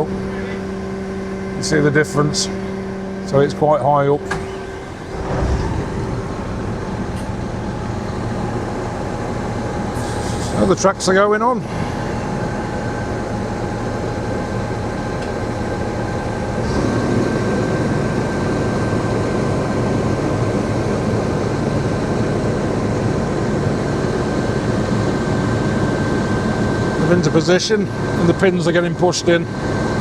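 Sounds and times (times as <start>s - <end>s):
crane diesel engine and hydraulics: 0.0s - 30.0s
thin steady whine: 0.0s - 30.0s.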